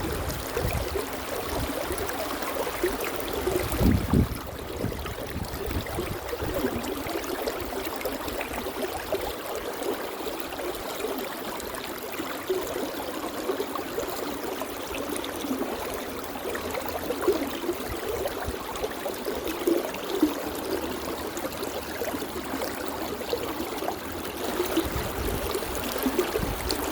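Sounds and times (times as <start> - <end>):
stream gurgling over stones: 0.0 - 26.9.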